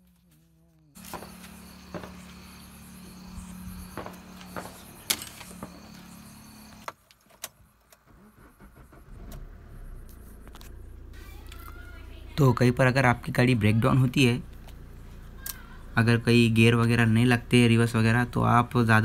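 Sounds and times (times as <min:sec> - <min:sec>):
diesel engine rumbling: 0:00.4 - 0:06.9, 0:07.7 - 0:19.0.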